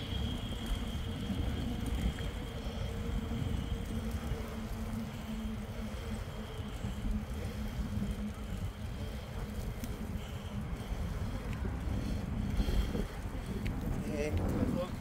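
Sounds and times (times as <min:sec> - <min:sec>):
bike tyres rolling on concrete: 0:00.0 - 0:15.0
faint steady hum: 0:00.0 - 0:15.0
wind rumble on microphone: 0:00.0 - 0:15.0.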